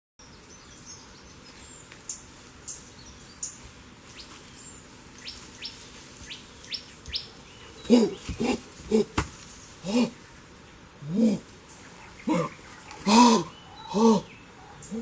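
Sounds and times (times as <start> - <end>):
birds chirping: 0.2 - 15.0
faint steady hiss: 0.2 - 15.0.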